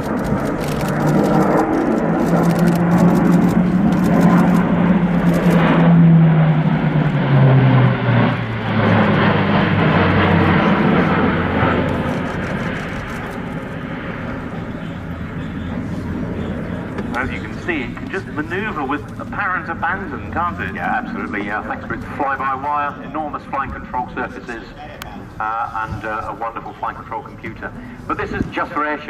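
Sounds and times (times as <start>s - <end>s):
turboprop aircraft droning overhead: 0.0s - 29.0s.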